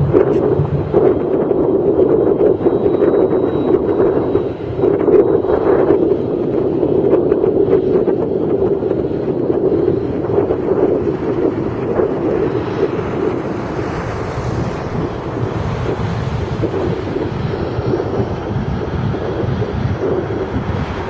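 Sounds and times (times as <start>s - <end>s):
jet engines taxiing: 0.0s - 21.0s
wind on microphone: 0.0s - 21.0s.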